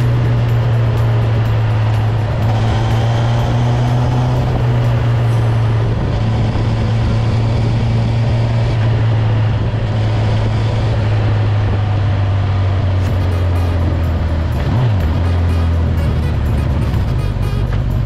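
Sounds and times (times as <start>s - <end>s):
motorcycle engine at steady revs: 0.0s - 18.0s.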